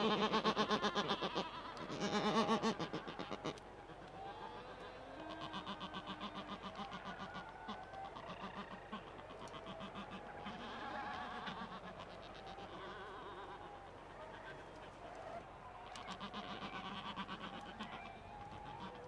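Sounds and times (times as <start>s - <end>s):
albatrosses calling: 0.0s - 19.0s.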